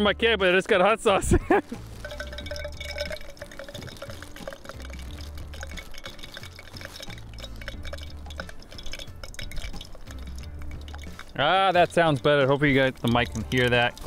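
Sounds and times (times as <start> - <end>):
oil crackling and sizzling in pan: 1.5 - 14.0.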